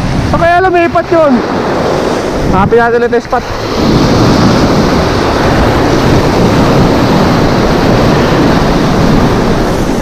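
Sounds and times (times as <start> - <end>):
waves breaking in surf: 0.0 - 10.0
wind rumbling on microphone: 0.0 - 10.0.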